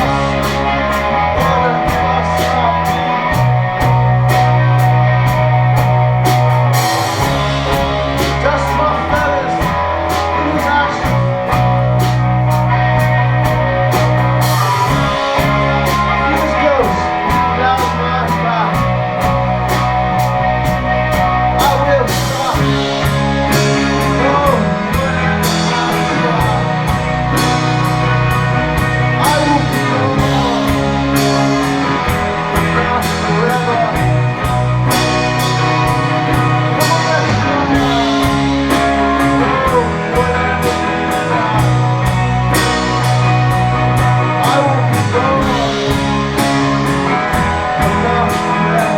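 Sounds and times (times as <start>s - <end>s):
drum kit beat: 0.0s - 48.9s
live rock band: 0.0s - 48.9s.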